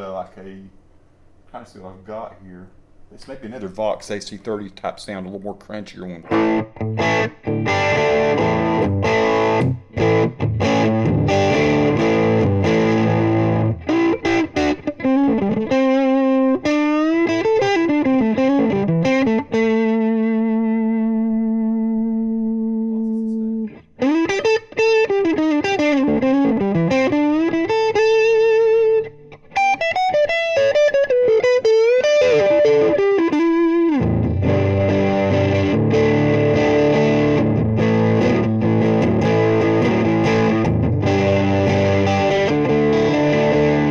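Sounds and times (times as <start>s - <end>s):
distorted electric guitar: 6.2s - 43.9s
electric guitar lead lines: 6.2s - 43.9s.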